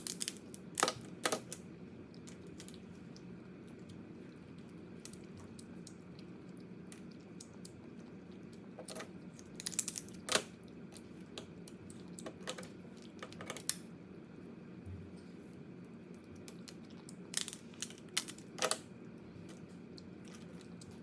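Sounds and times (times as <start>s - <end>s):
crab shell cracking and chewing: 0.0s - 13.8s, 16.1s - 21.0s.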